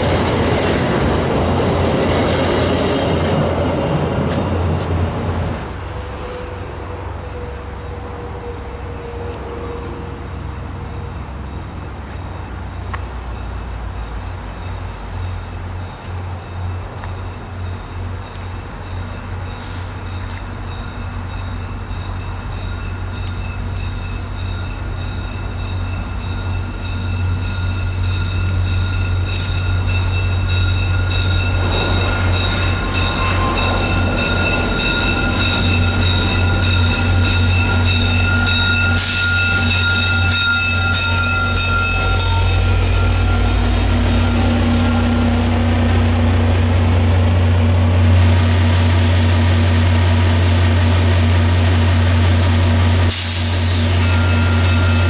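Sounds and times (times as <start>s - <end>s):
train engine rumble: 0.0s - 55.0s
train wheels squealing: 2.2s - 12.6s, 13.2s - 45.8s, 53.2s - 55.0s.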